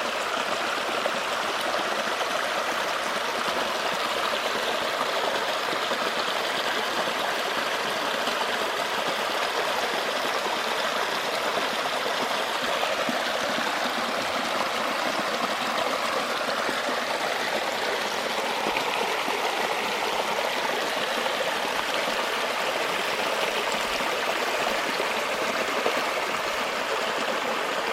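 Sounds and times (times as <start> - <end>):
waterfall rushing over rock: 0.0 - 27.9.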